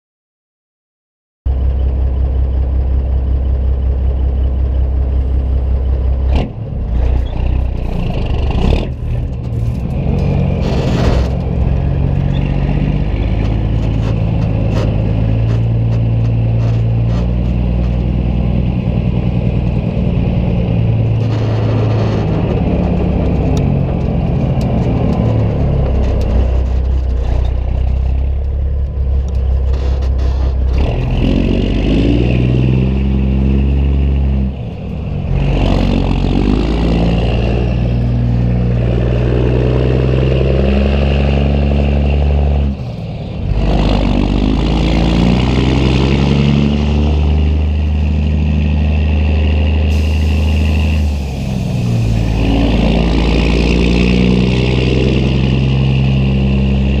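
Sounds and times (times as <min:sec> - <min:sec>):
diesel truck exhaust drone: 0:01.5 - 0:57.0.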